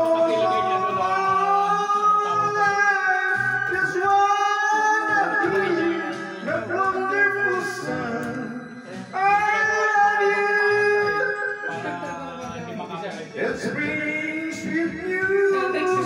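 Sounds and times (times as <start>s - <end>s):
backing track music: 0.0s - 16.0s
man singing karaoke: 0.0s - 16.0s.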